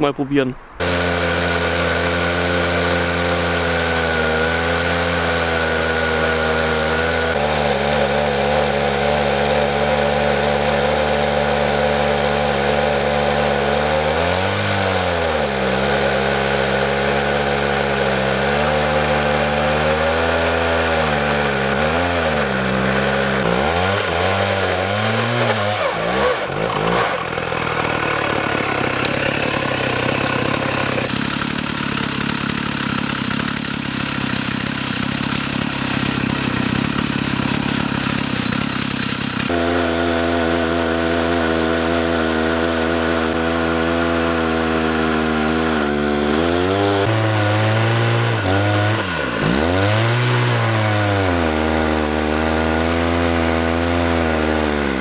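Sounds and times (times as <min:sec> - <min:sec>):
chainsaw cutting log: 0:00.8 - 0:55.0.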